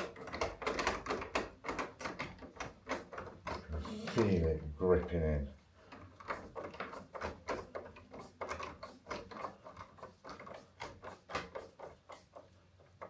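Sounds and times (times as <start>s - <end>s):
screwdriver clicking and scraping metal: 0.0s - 4.6s, 5.9s - 13.0s.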